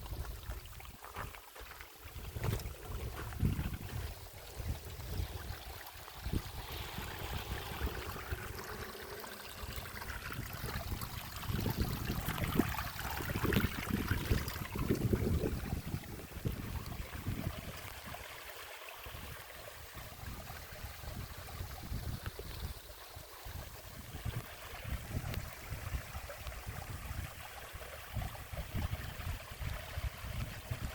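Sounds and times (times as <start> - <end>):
water rushing: 0.0 - 30.9.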